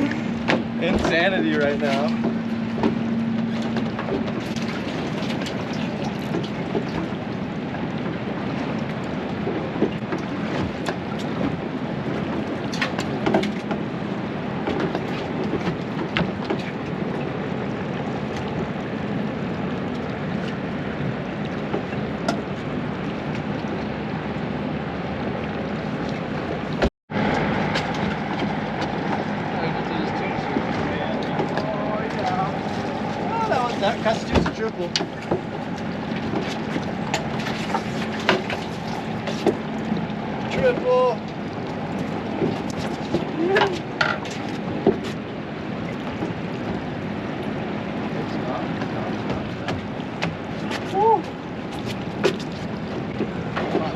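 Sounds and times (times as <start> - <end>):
water rushing: 0.0 - 53.9
wind: 0.0 - 53.9.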